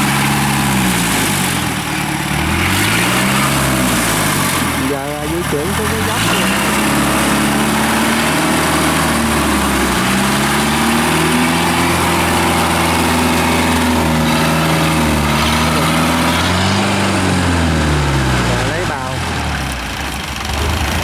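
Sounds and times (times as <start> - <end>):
tracked carrier engine running: 0.0 - 21.0.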